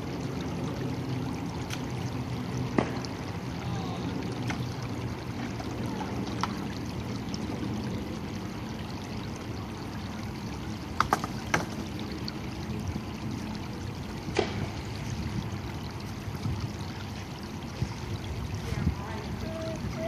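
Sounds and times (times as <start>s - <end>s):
creek running over stones: 0.0s - 20.0s.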